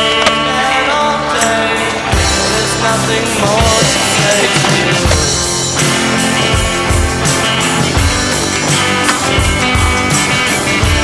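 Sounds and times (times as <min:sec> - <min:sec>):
rock song with sung vocal: 0:00.0 - 0:11.0.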